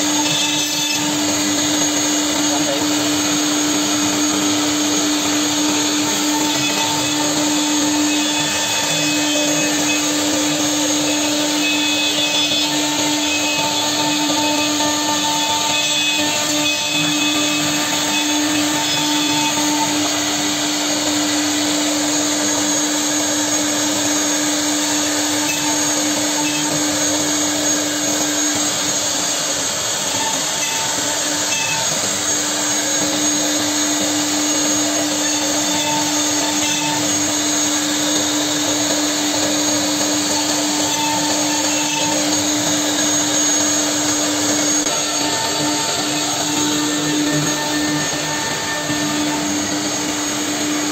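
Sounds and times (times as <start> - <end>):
dust extraction: 0.0 - 50.9
router spindle whine: 0.0 - 50.9.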